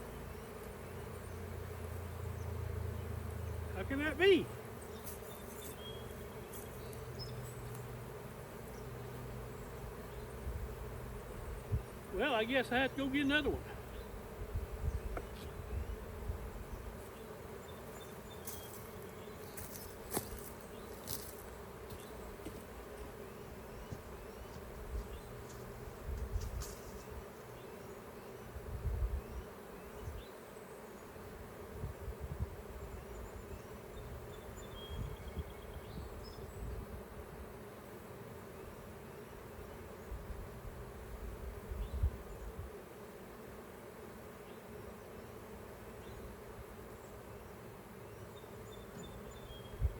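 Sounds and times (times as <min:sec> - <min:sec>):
honeybees buzzing: 0:00.0 - 0:49.9.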